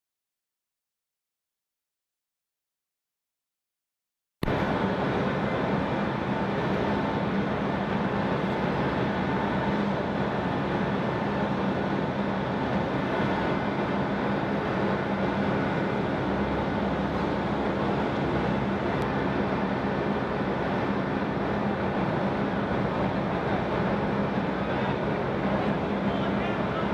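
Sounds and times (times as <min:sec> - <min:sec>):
machinery drone: 0:04.4 - 0:26.9.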